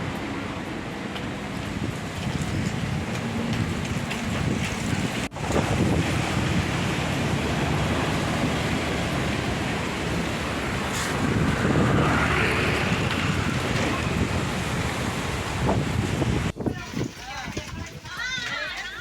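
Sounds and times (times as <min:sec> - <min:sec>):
storm wind buffeting microphone: 0:00.0 - 0:18.8.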